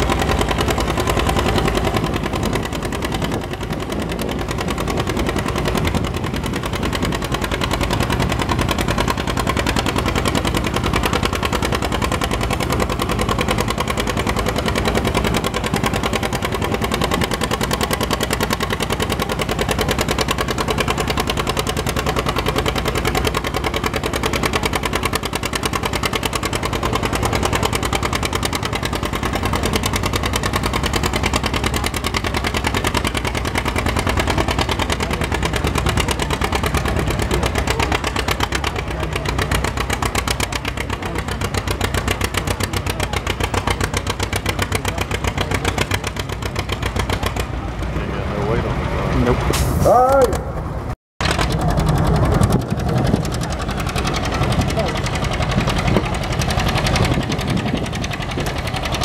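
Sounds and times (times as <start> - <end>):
tractor engine working under load: 0.0 - 59.0.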